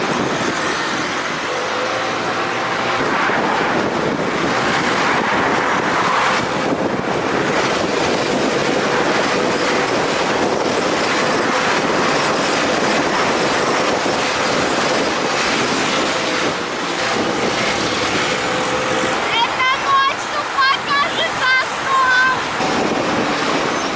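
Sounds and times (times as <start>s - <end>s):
vehicle rushing noise: 0.0s - 23.9s.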